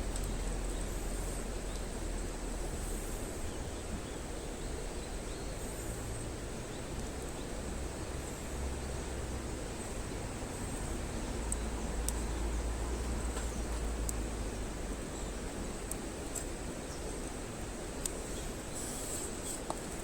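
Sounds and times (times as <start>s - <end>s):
campfire rumble and hiss: 0.0s - 20.0s
faint fire crackles: 0.0s - 20.0s.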